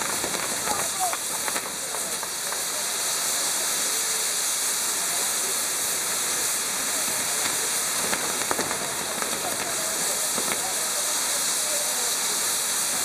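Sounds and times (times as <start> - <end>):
fountain fireworks hissing: 0.0 - 13.0
sharp crackles: 0.0 - 13.0.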